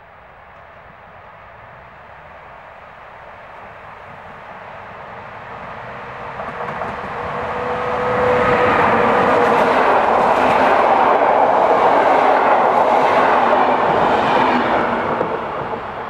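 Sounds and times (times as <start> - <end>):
passing train rushing: 0.1 - 16.0.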